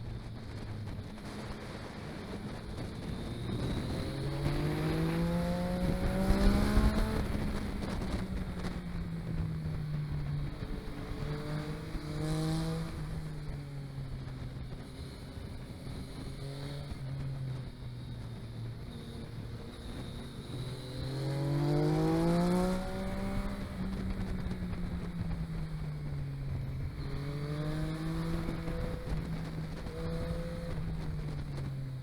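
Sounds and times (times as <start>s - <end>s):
vehicle engine accelerating: 0.0s - 32.0s.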